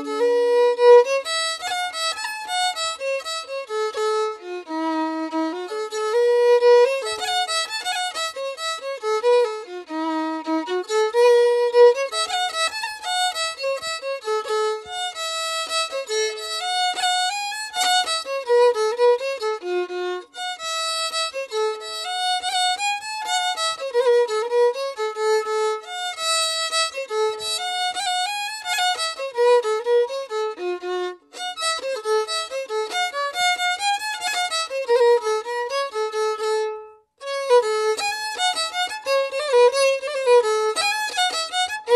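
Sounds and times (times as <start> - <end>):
violin melody: 0.0 - 41.9.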